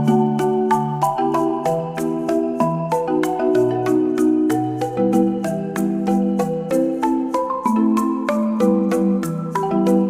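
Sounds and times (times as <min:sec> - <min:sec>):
mallet percussion melody: 0:00.0 - 0:10.0.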